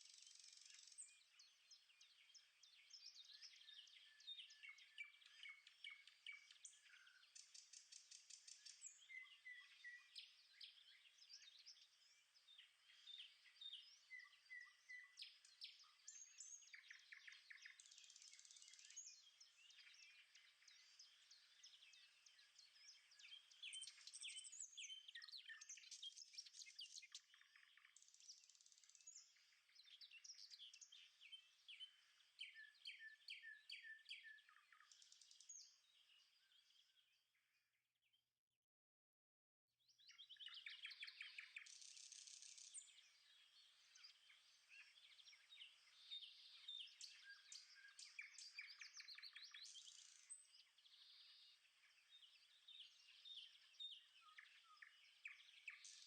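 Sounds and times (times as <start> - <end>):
birds chirping and singing: 0.0 - 37.0, 40.0 - 56.0.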